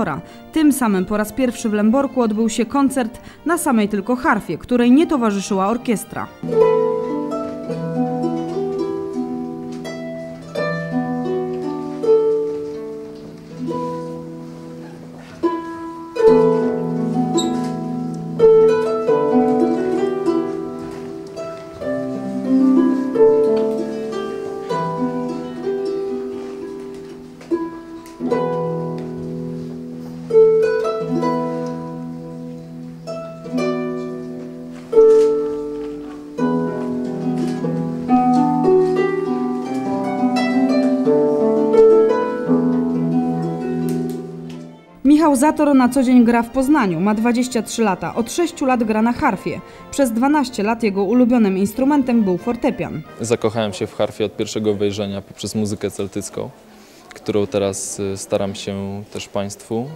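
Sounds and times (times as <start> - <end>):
harp playing: 0.0 - 53.8.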